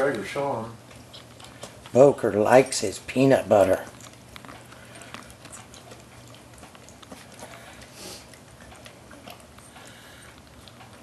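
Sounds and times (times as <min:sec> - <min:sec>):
puppy licking and chewing: 0:00.0 - 0:11.0.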